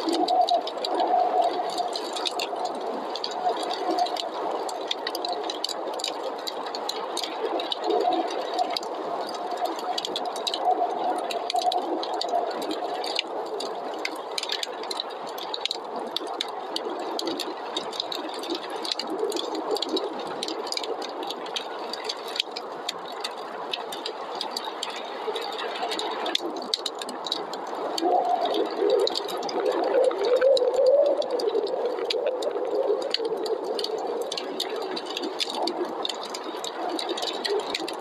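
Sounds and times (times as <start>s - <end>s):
fire crackling and popping: 0.0s - 38.0s
howling wind: 0.0s - 38.0s.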